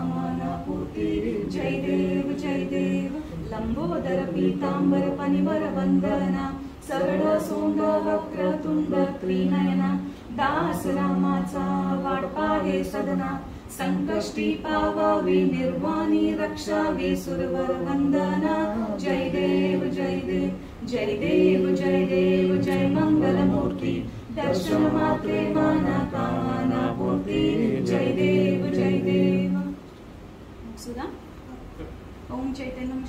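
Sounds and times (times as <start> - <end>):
voices singing devotional hymn: 0.0 - 30.0.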